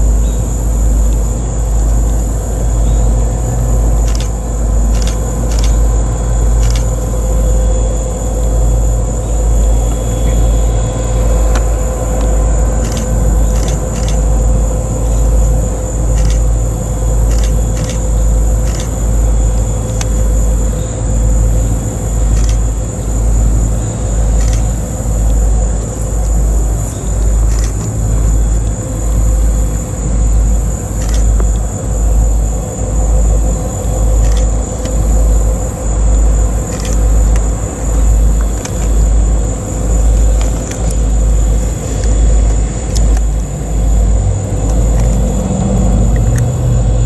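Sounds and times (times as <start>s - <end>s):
diesel locomotive rumble: 0.0s - 47.0s.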